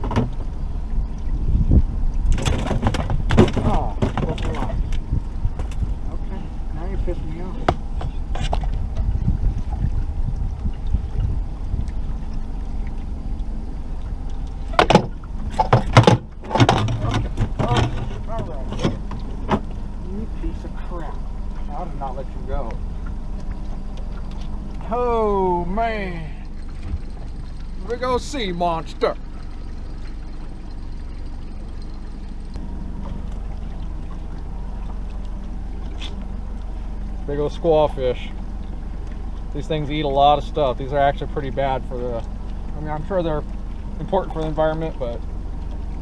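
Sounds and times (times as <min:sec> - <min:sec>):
sharp knocks and clatter on boat: 0:00.0 - 0:25.4, 0:26.5 - 0:36.8, 0:37.4 - 0:46.0
boat motor running: 0:00.0 - 0:46.0.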